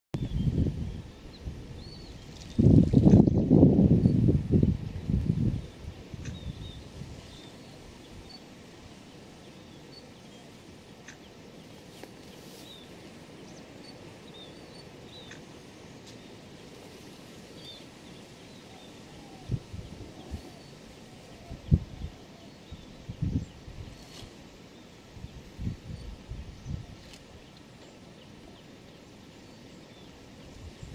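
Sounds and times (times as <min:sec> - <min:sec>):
birds chirping: 0:05.0 - 0:30.9.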